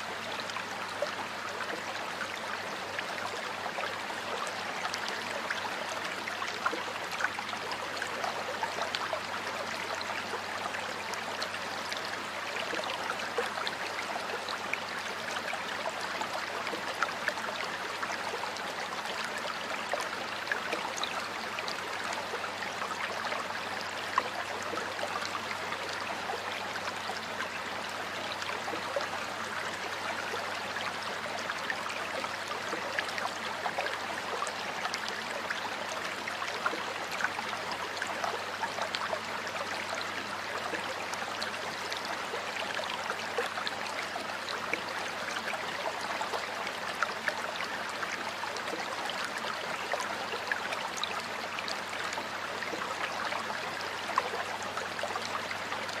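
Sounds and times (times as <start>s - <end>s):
stream water splashing over rocks: 0.0s - 56.0s.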